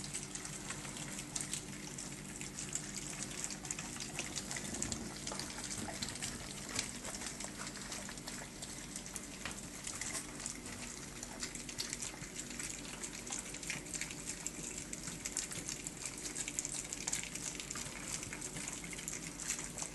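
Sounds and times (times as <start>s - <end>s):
puppies eating wet food: 0.0s - 19.9s.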